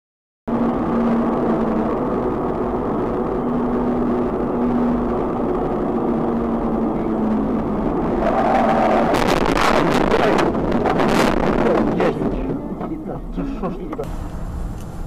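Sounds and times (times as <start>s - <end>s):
car road and engine noise: 0.5s - 15.0s.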